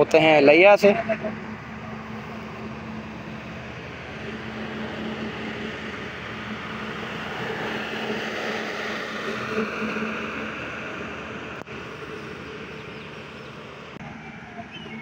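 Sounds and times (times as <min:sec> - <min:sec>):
train diesel engine humming: 0:00.0 - 0:15.0.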